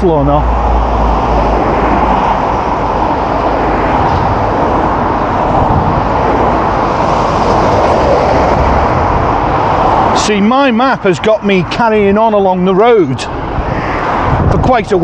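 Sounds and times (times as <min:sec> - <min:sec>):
cars and lorries passing: 0:00.0 - 0:15.0.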